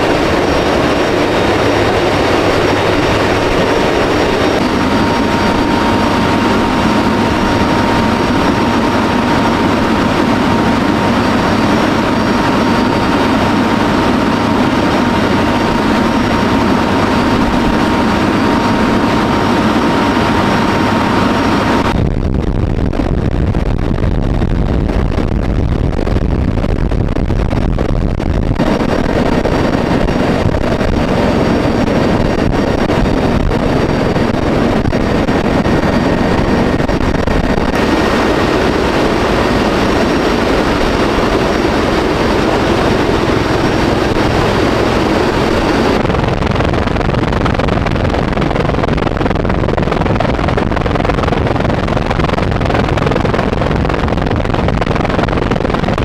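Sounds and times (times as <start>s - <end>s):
aircraft engine noise: 0.0s - 56.0s.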